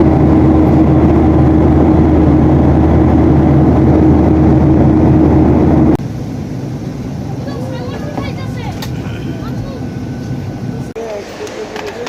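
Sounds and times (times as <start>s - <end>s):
droning engine: 0.0s - 12.0s.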